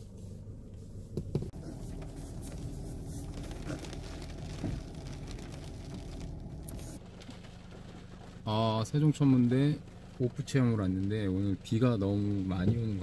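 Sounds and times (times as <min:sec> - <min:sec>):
engine and road rumble in cabin: 0:00.0 - 0:13.0
rain ticking on glass: 0:01.9 - 0:13.0.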